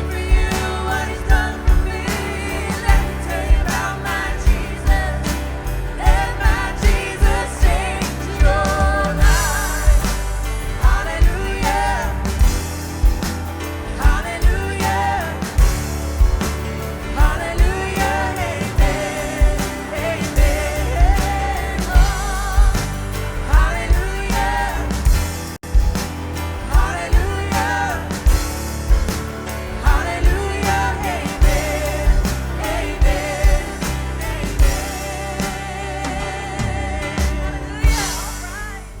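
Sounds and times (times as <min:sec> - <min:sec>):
people singing with vibrato: 0:00.0 - 0:39.0
steady drum beat: 0:00.0 - 0:39.0
worship band playing: 0:00.0 - 0:39.0.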